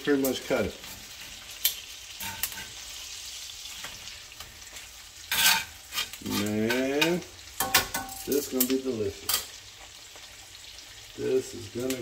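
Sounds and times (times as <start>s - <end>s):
steak sizzling in a frying pan: 0.0s - 12.0s.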